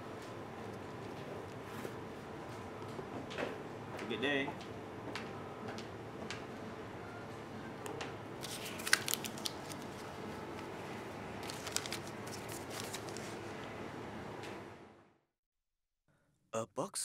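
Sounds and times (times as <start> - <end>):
steady room hum: 0.0 - 15.2.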